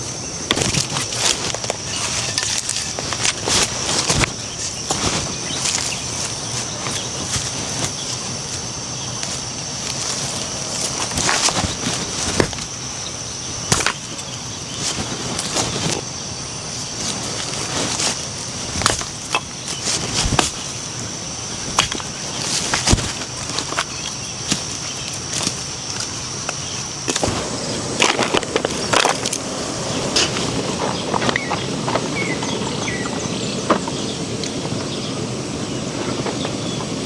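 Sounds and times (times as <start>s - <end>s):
high-pitched hiss: 0.0s - 37.0s.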